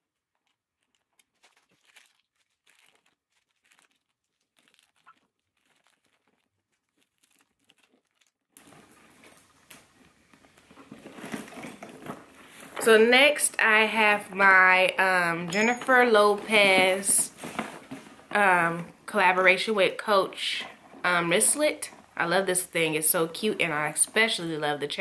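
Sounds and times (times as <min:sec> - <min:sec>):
crinkling of wrapped packets: 0:00.0 - 0:22.7.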